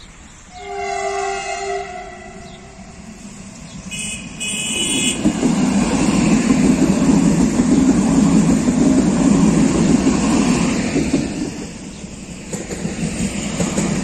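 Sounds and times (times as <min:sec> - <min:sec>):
train wheels rumbling on rails: 0:00.1 - 0:14.0.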